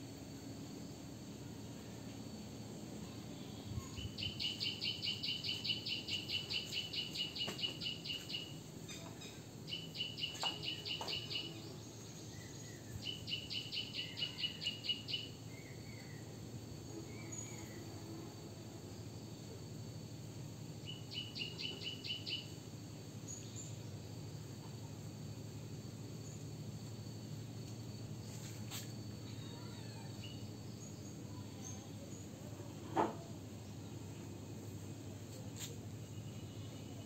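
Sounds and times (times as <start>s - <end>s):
low outdoor background noise: 0.0s - 37.0s.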